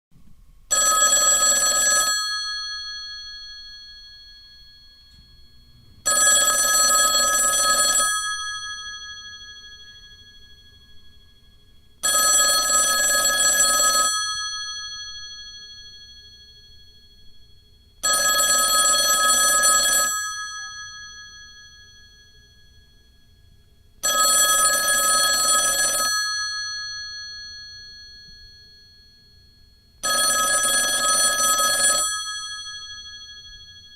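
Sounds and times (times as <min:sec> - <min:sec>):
telephone bell ringing: 0:00.7 - 0:33.9.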